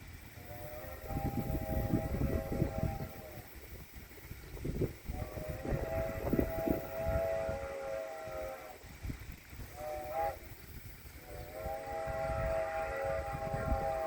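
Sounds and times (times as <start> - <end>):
distant steam train whistle: 0.3 - 3.6, 5.0 - 9.0, 9.6 - 14.0.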